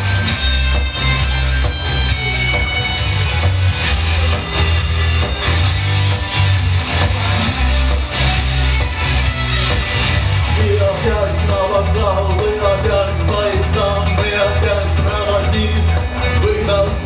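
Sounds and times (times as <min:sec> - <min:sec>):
bass line: 0:00.0 - 0:17.0
rock guitar: 0:00.0 - 0:17.0.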